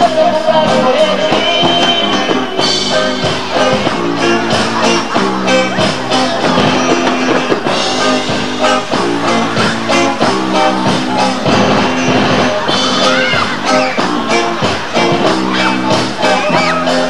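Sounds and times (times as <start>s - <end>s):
drum kit: 0.0s - 17.0s
electric guitar: 0.0s - 17.0s
live rock band music: 0.0s - 17.0s.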